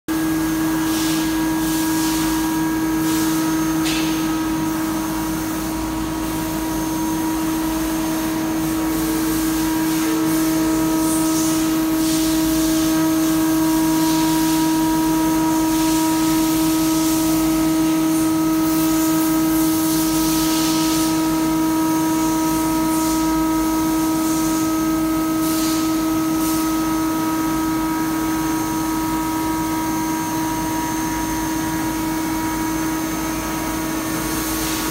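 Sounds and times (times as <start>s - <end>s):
coolant hiss: 0.1s - 34.9s.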